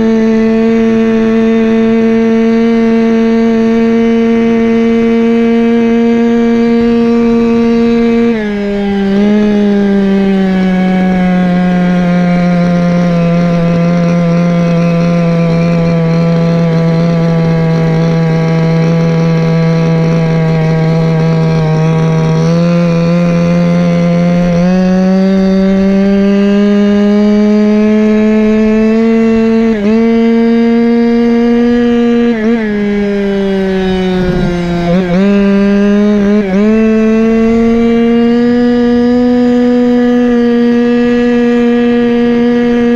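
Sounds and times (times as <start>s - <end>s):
small two-stroke scooter engine: 0.0s - 42.9s.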